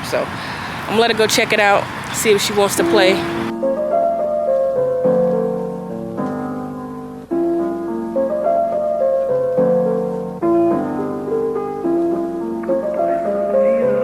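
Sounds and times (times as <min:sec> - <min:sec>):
piano playing slow chords: 0:02.5 - 0:14.0.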